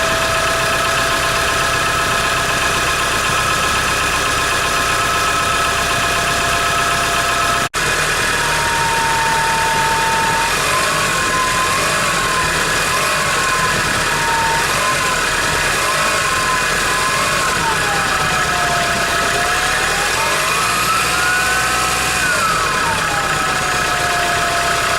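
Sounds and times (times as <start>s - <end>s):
engine running: 0.0s - 24.9s
turbocharger whistling: 0.0s - 24.9s.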